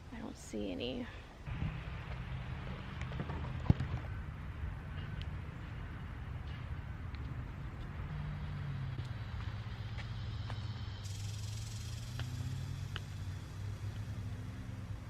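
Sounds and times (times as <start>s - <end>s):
car traffic rumble: 0.8s - 15.0s.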